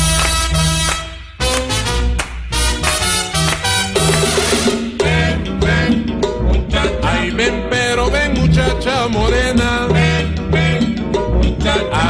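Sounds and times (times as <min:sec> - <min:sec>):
salsa music instrumental: 0:00.0 - 0:12.0.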